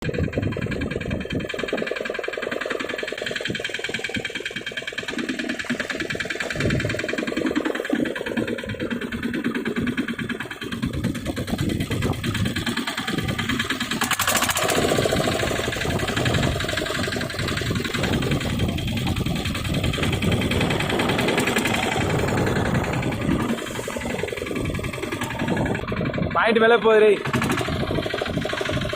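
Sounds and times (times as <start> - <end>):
boat engine running: 0.0 - 28.9.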